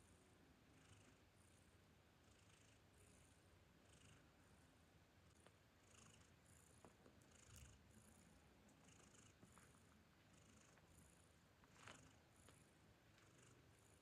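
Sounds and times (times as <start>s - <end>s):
cats purring: 0.0s - 14.0s.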